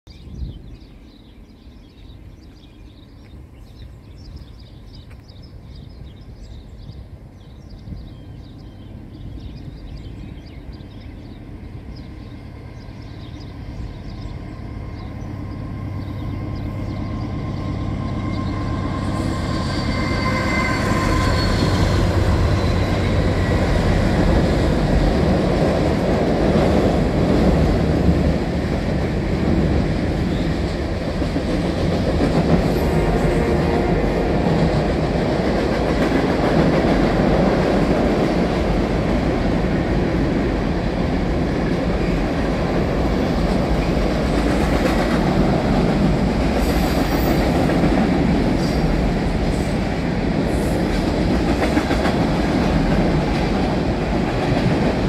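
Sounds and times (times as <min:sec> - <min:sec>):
freight cars rattling over bridge: 0:08.4 - 0:55.0.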